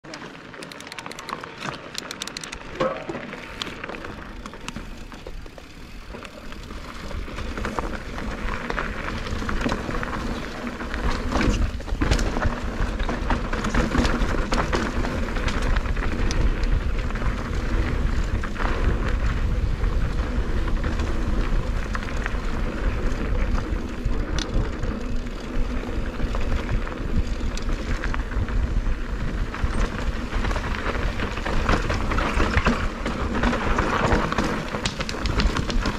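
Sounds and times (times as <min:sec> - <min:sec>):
bike rattling and clicking: 0:00.0 - 0:35.9
tyres crunching over gravel: 0:00.0 - 0:35.9
wind buffeting microphone: 0:06.6 - 0:35.9.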